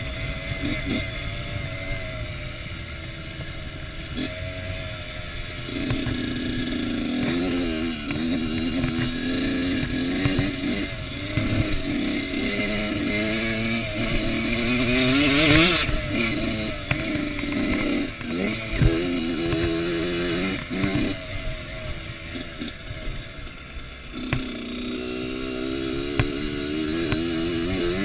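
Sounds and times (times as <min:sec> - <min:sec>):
motocross engine revving: 0:00.0 - 0:28.0.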